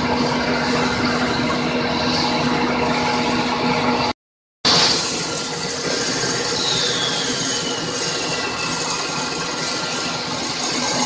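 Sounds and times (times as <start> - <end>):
machine high whine: 0.0 - 11.0
machine running hum: 0.0 - 11.0.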